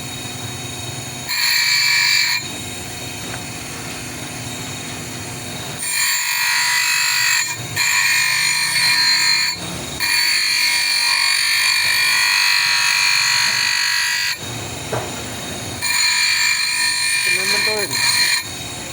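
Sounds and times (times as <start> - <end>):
high-pitched power tool running: 0.0 - 18.9.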